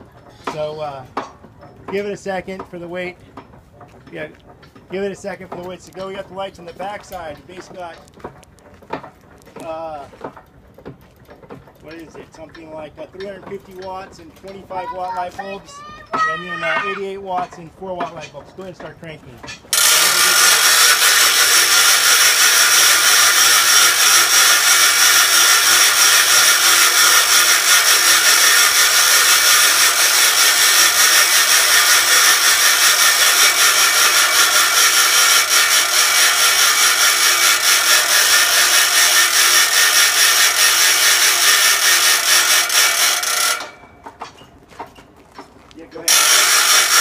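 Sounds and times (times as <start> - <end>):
gearing rattle: 0.0 - 47.0.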